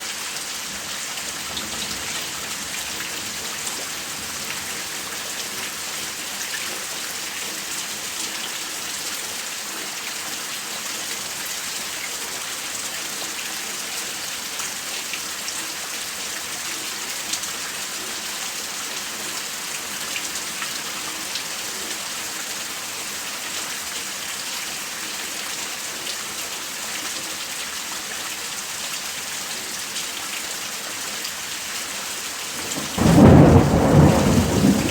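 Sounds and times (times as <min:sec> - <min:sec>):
rain falling steadily: 0:00.0 - 0:34.9.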